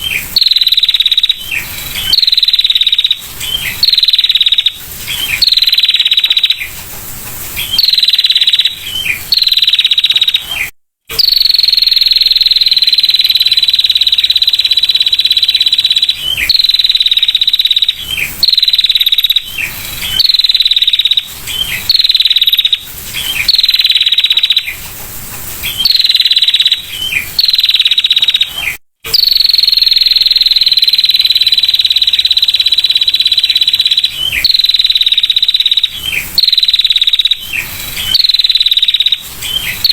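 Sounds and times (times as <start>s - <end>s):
bird trilling: 0.0s - 6.7s, 7.6s - 24.8s, 25.6s - 39.9s.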